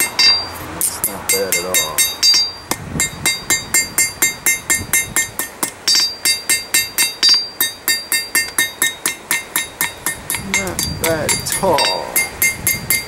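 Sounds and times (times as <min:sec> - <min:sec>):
hammer striking steel on anvil: 0:00.0 - 0:13.0.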